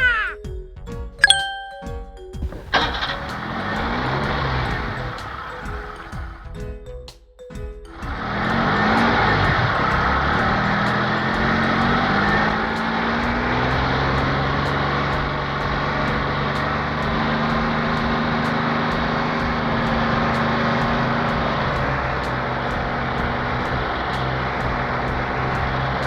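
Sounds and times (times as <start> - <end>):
truck engine humming: 2.4 - 6.4, 8.1 - 26.0.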